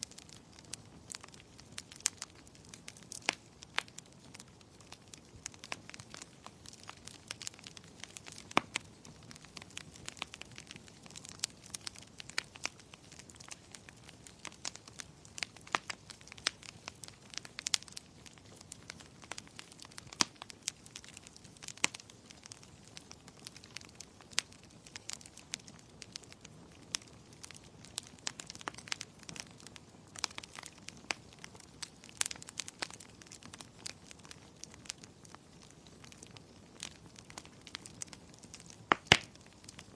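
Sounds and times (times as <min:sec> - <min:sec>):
firewood crackling and popping: 0:00.0 - 0:39.9
soft hiss of flame: 0:00.0 - 0:39.9.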